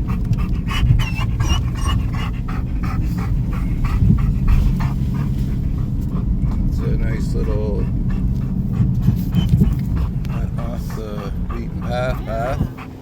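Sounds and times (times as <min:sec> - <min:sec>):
dog panting: 0:00.0 - 0:13.0
vehicle rumbling on rough road: 0:00.0 - 0:13.0.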